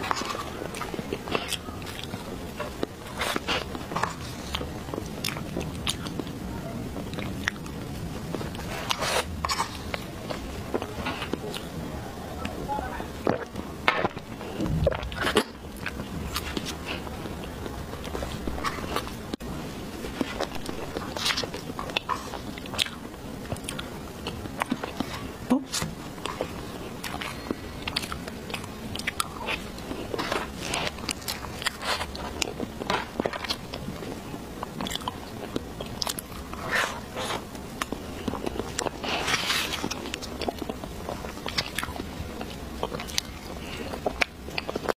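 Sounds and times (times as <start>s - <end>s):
chewing: 0.0s - 6.4s, 7.0s - 11.8s, 13.2s - 19.4s, 20.0s - 44.9s.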